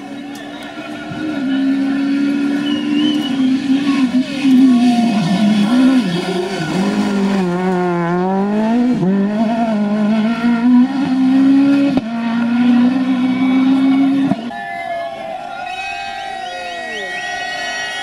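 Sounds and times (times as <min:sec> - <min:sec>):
rally car engine revving: 0:00.0 - 0:14.6.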